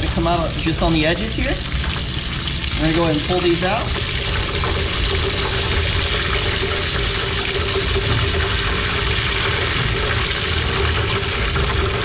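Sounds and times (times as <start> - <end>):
cheese deep-frying in oil: 0.0 - 12.0.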